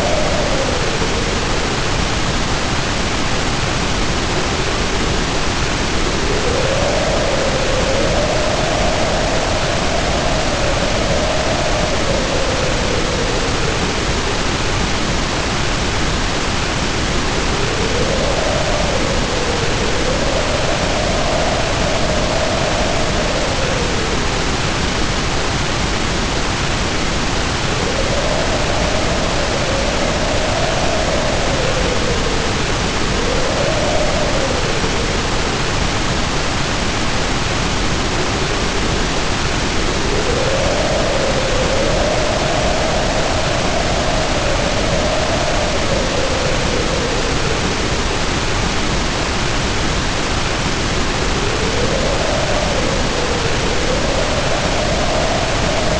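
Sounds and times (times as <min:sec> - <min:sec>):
heavy rain pouring: 0:00.0 - 0:55.9
wind howling: 0:00.0 - 0:55.9.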